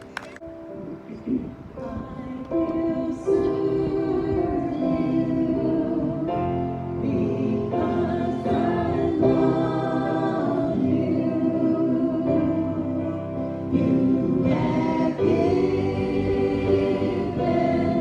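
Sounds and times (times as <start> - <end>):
group singing a gospel hymn: 1.8 - 18.0.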